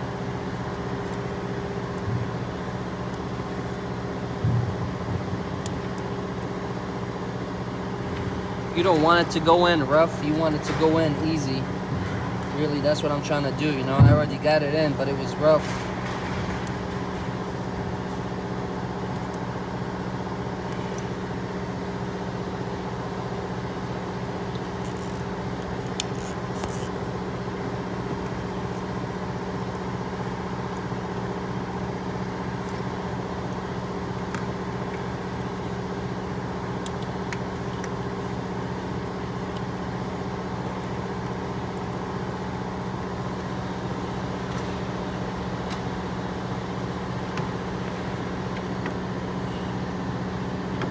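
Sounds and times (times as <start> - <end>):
machine hum: 0.0 - 25.2, 26.2 - 50.9.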